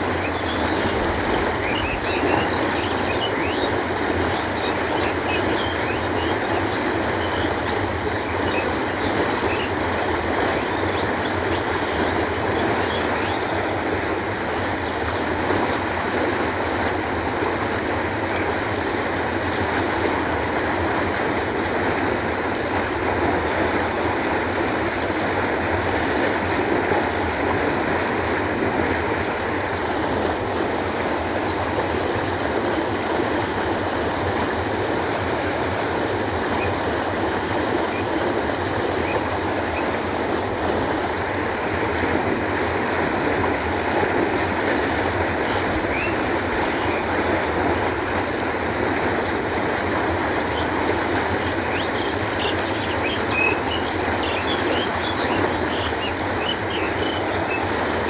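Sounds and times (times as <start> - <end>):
canal water flowing: 0.0 - 58.0.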